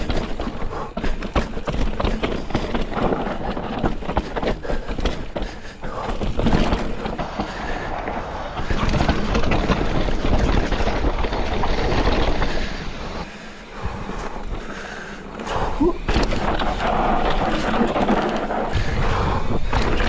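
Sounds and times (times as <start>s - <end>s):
bike rattling and knocking: 0.0s - 20.0s
bike tyre roar on dirt: 0.0s - 20.0s.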